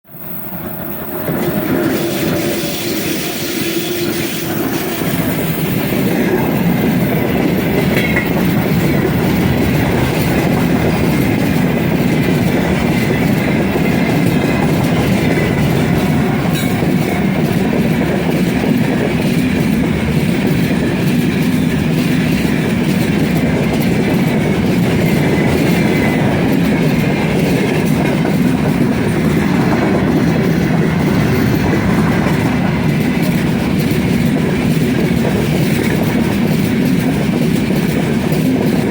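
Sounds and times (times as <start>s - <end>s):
freight train wheels rumbling: 0.1s - 38.9s
wagons clickety-clack: 0.2s - 38.9s.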